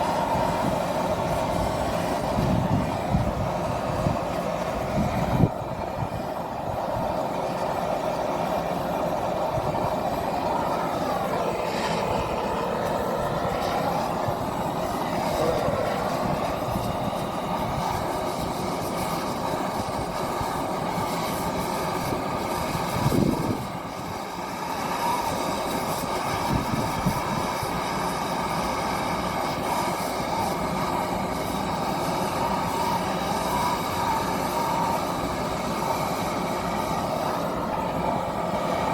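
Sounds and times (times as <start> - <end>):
mechanical running noise: 0.0 - 38.9.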